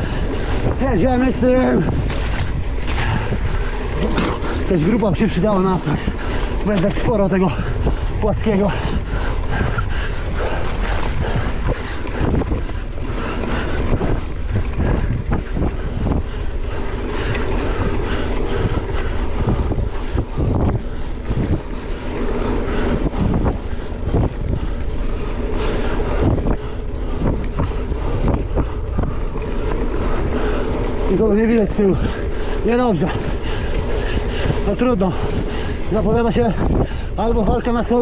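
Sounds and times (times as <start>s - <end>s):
bicycle tyres on asphalt: 0.0s - 38.0s
wind rushing over microphone: 0.0s - 38.0s.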